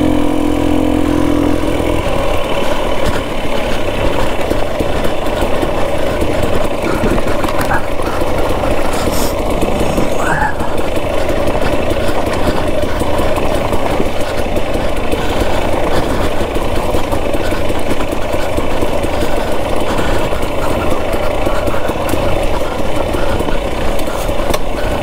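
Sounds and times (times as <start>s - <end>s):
dirt bike two-stroke engine: 0.0s - 25.0s.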